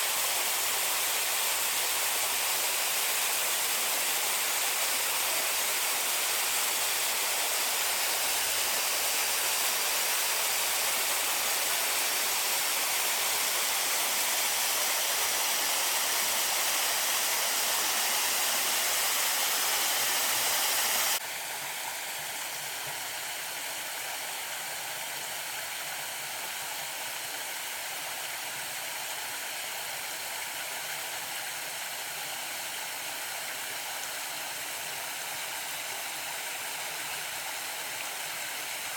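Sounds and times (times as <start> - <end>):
garden waterfall splashing: 0.0 - 38.9.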